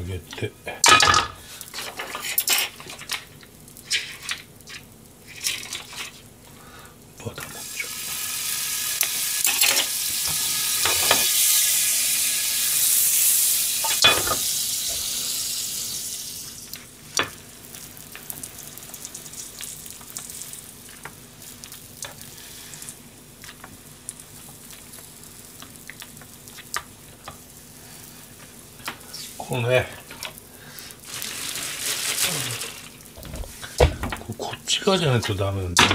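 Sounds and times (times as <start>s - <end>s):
butter sizzling in frying pan: 1.4s - 35.5s.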